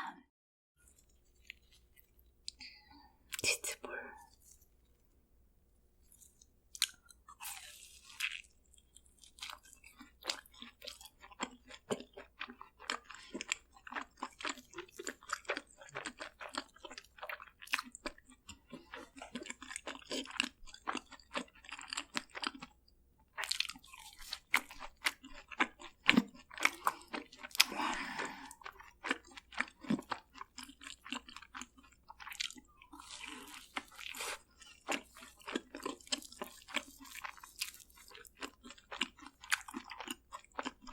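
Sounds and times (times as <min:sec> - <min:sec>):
crunching and chewing fried food: 0:00.8 - 0:02.6, 0:03.2 - 0:04.9, 0:06.0 - 0:40.9.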